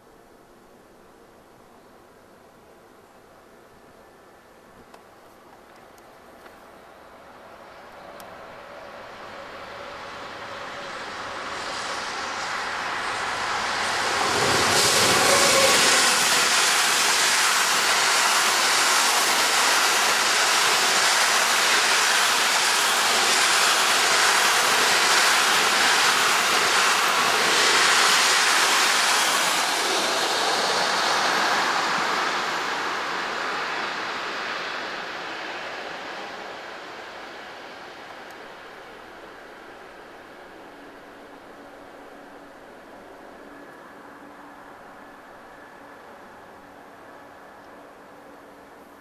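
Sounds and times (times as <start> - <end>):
freight train passing: 5.6 - 49.0.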